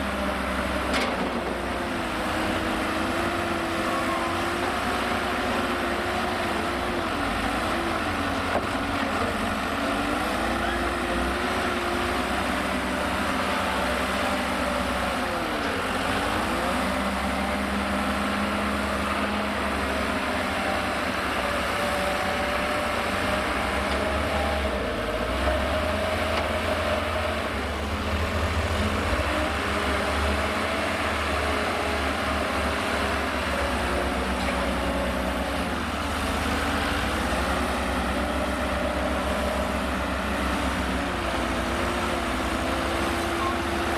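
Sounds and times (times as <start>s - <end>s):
heavy diesel engines running: 0.0s - 43.9s.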